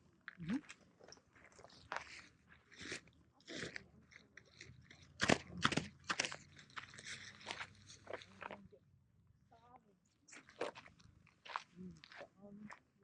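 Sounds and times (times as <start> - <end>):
crunching and crinkling: 0.1 - 8.8, 10.3 - 13.0.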